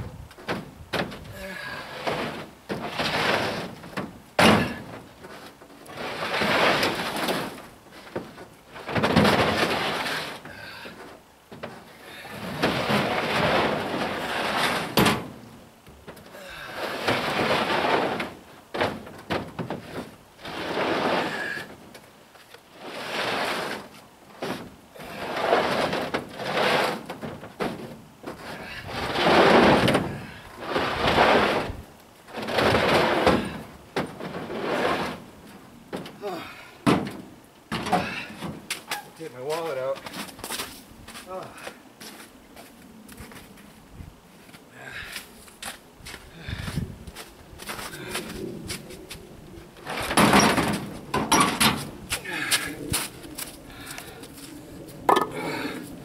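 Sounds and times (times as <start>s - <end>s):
concrete blocks scraping: 0.5s - 43.7s, 44.5s - 56.0s.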